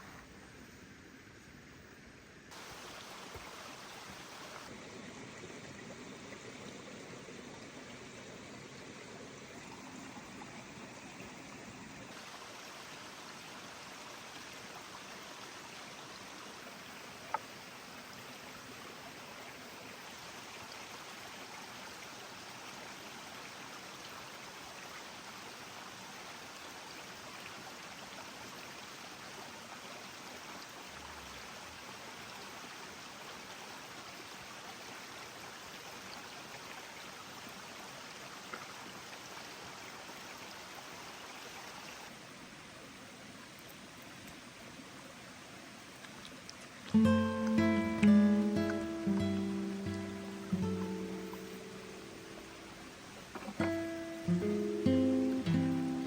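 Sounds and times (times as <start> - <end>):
stream rushing: 2.5 - 56.0.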